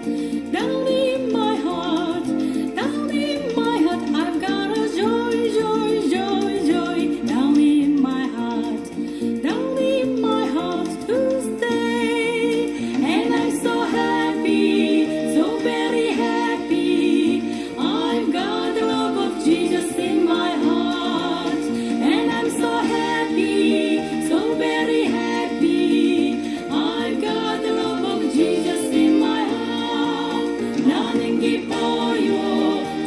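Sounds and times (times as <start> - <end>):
instrumental accompaniment: 0.0 - 33.0
praise song singing: 0.0 - 33.0.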